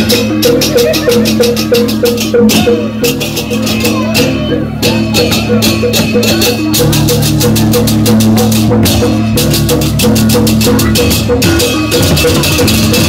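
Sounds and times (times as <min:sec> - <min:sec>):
cymbals clashing: 0:00.0 - 0:13.0
drumming: 0:00.0 - 0:13.0.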